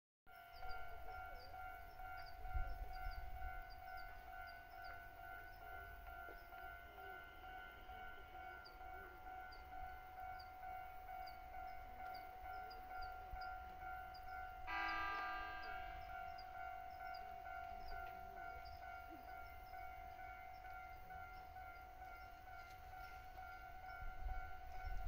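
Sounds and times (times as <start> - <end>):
level crossing bell ringing: 0.4 - 25.0.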